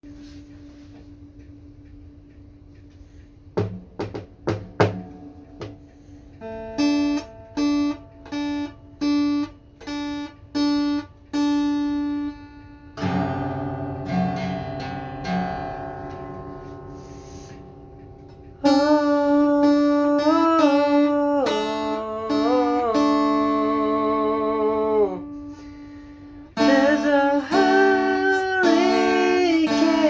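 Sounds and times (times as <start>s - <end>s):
acoustic guitar playing: 3.6s - 30.0s.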